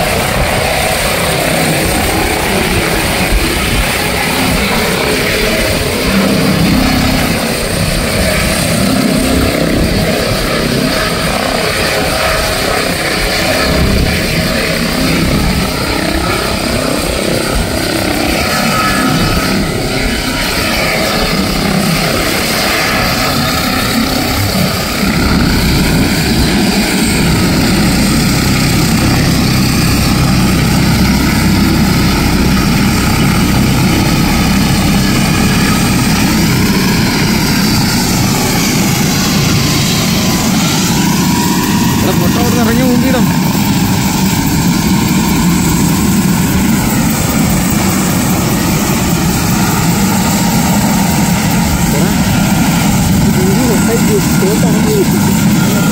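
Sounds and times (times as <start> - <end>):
helicopter rotor and turbine: 0.0 - 55.9.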